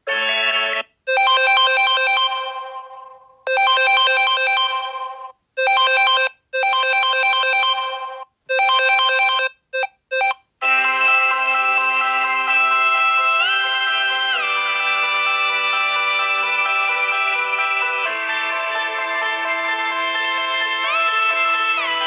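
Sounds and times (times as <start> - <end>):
chiming phone ringtone: 0.1 - 22.0
different ringtone: 0.1 - 22.0.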